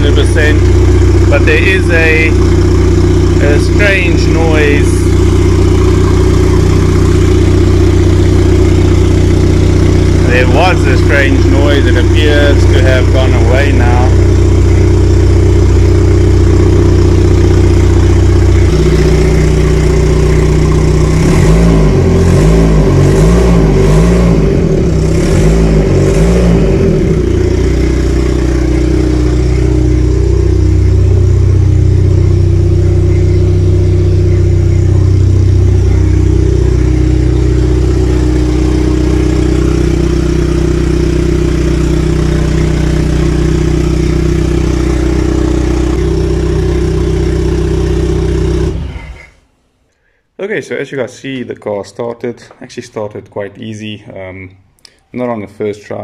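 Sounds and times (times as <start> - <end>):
car engine revving and idling: 0.0 - 49.6.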